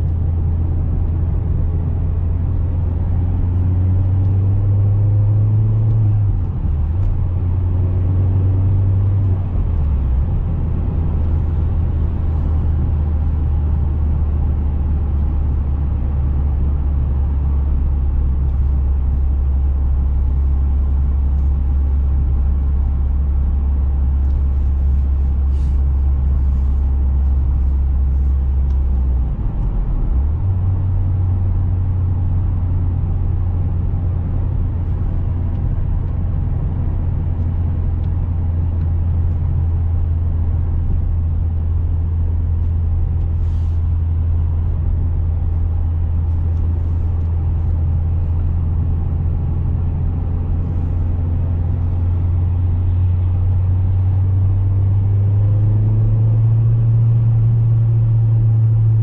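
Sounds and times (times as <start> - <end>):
car engine drone in cabin: 0.0 - 59.0
road noise: 0.0 - 59.0.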